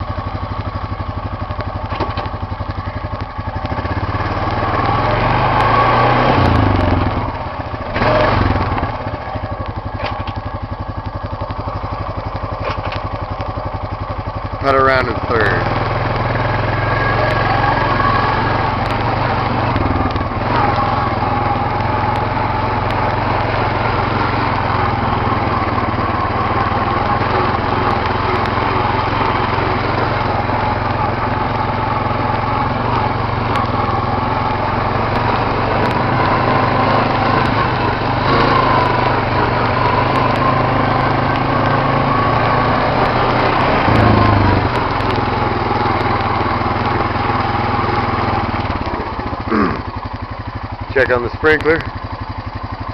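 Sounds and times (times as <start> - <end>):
quad engine running: 0.0 - 52.9.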